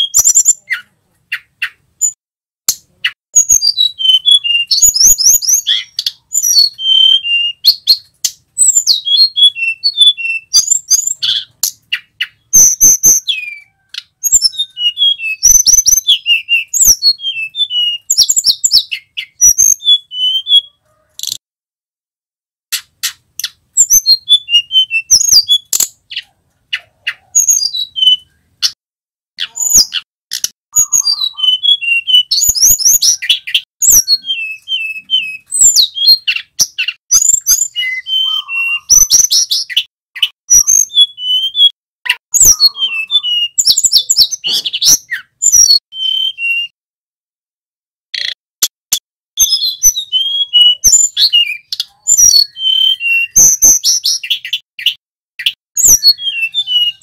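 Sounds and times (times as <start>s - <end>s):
bird singing whistled notes: 0.0s - 2.2s, 3.4s - 21.4s, 23.0s - 28.8s, 29.4s - 46.8s, 49.4s - 57.0s.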